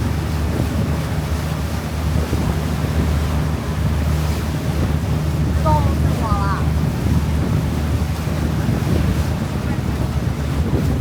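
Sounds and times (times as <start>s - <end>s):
boat engine rumble: 0.0s - 11.0s
rushing water: 0.0s - 11.0s
wind buffeting microphone: 0.0s - 11.0s.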